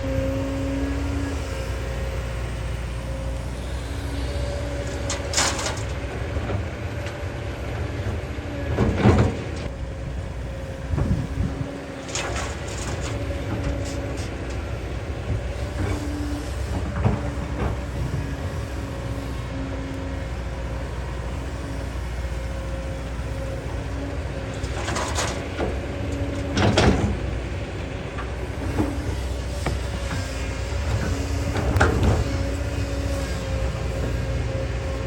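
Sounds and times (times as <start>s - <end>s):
excavator diesel engine whining: 0.0s - 35.0s.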